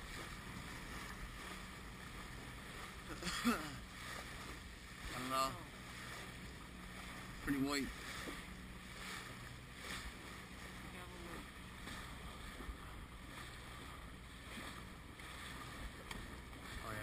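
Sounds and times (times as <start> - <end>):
boat engine hum: 0.0 - 17.0
water washing along hull: 0.0 - 17.0.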